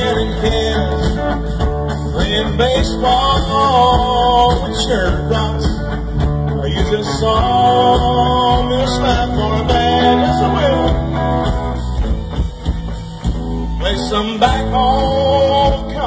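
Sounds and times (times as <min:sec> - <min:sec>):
lead vocal singing: 0:00.0 - 0:16.0
live country rock band: 0:00.0 - 0:16.0.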